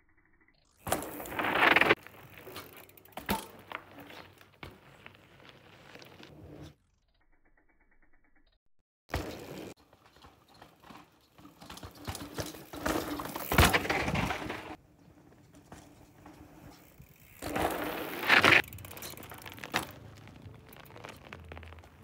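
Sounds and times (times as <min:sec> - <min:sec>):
bike tyres crunching over gravel: 0:00.8 - 0:06.8, 0:09.1 - 0:22.0.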